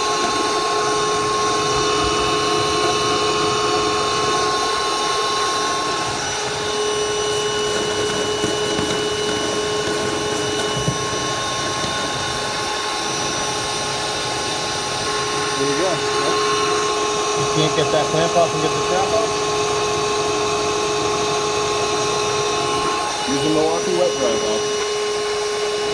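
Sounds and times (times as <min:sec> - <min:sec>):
shop vac whining: 0:00.0 - 0:25.9.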